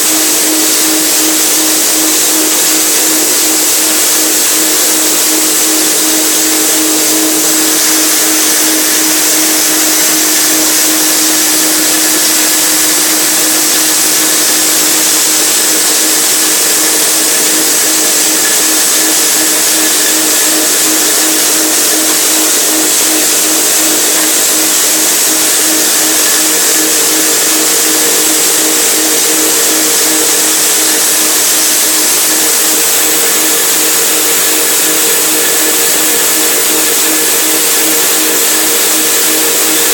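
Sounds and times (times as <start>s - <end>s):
forage chopper humming: 0.1s - 36.8s.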